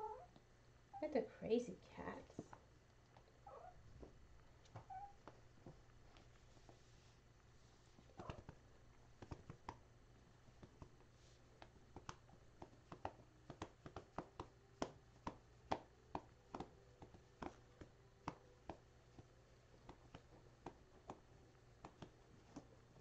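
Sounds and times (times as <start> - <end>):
low room hum: 0.0 - 23.0
faint irregular clicking and tapping: 1.9 - 6.8, 8.0 - 23.0.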